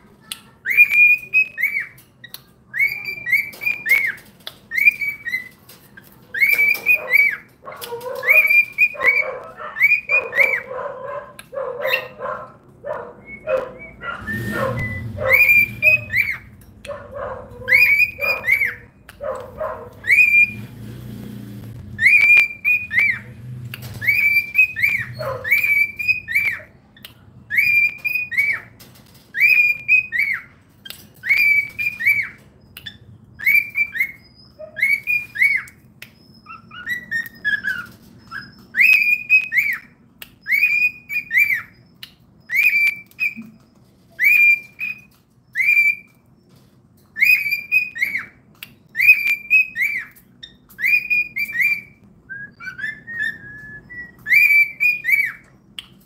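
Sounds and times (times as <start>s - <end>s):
cockatiel whistled calls: 0.6s - 5.6s, 6.3s - 7.5s, 8.2s - 10.7s, 13.2s - 16.6s, 17.6s - 18.9s, 20.0s - 20.7s, 22.0s - 26.7s, 27.5s - 28.7s, 29.3s - 46.3s, 47.2s - 56.0s.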